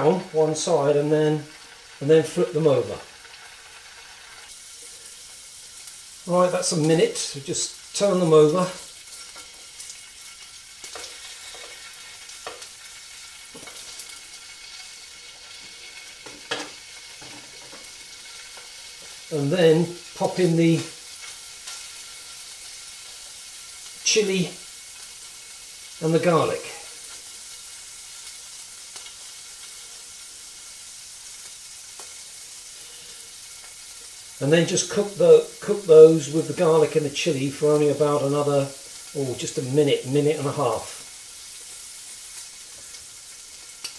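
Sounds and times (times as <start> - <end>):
scallops sizzling in oil: 0.0 - 43.9.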